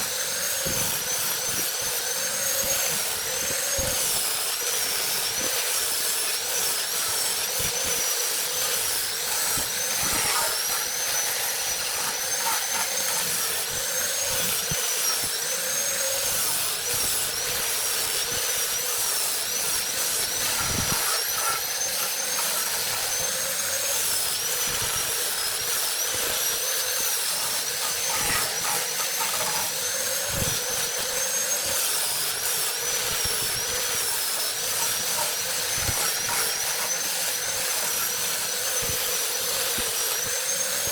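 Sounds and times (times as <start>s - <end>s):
power tool whining on wood: 0.0s - 40.9s.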